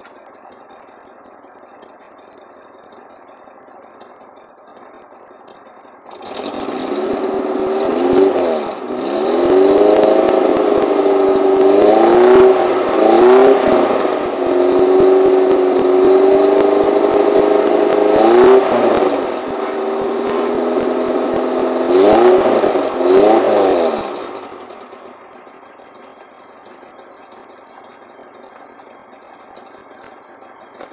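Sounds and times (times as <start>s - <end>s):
engine revving: 4.8s - 30.9s.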